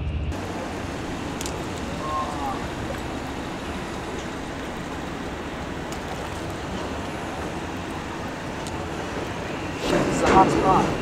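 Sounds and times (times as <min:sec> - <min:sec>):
distant road traffic: 0:00.2 - 0:11.0
harbour water: 0:00.3 - 0:11.0.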